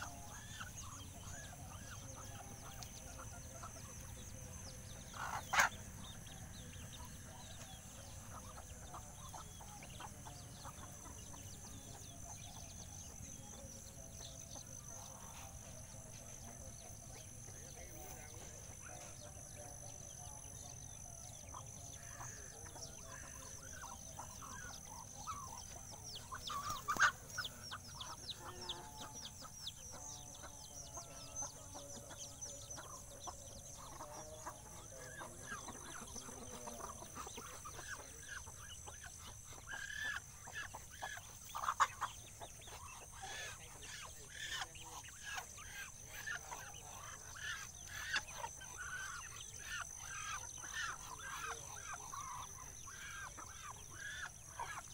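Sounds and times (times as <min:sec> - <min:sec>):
chickens clucking: 0:00.0 - 0:54.9
roosters: 0:00.0 - 0:54.9.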